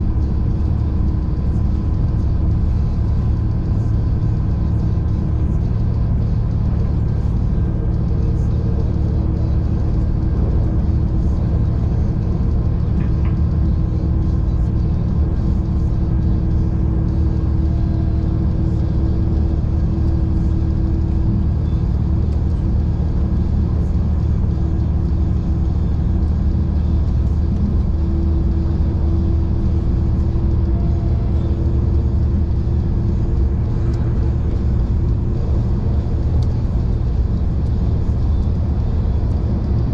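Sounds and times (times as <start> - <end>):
train rumbling on track: 0.0 - 39.9.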